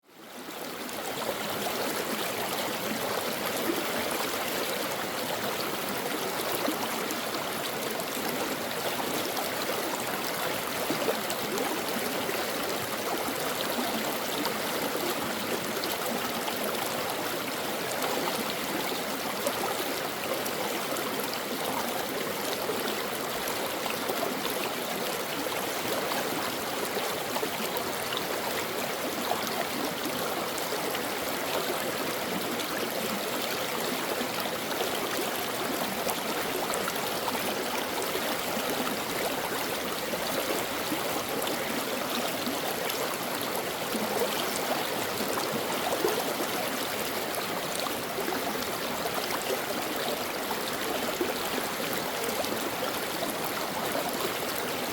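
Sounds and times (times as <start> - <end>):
stream babbling: 0.2 - 54.9.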